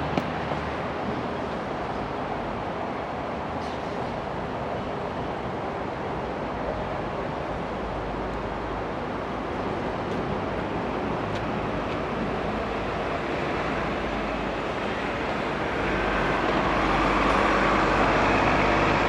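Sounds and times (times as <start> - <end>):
roadside traffic: 0.0 - 19.0.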